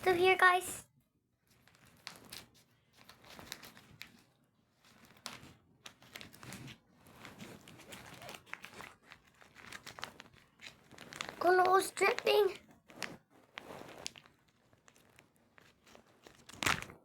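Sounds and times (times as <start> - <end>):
faint crinkling: 0.0 - 17.0.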